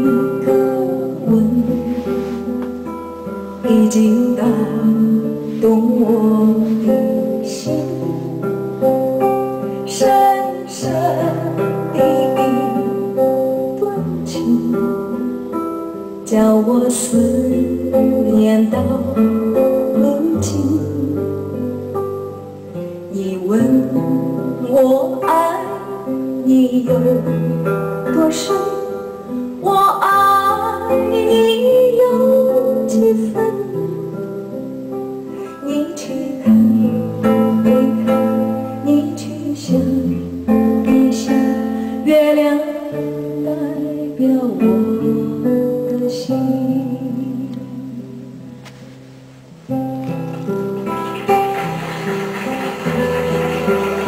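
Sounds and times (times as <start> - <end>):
acoustic guitar melody: 0.0 - 54.0.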